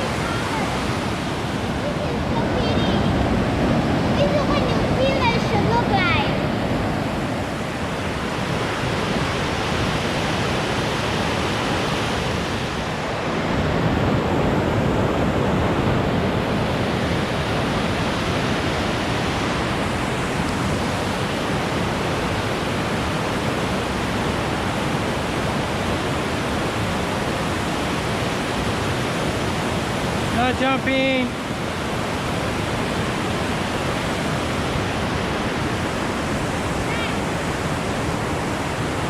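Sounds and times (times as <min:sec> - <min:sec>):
rushing river water: 0:00.0 - 0:39.0.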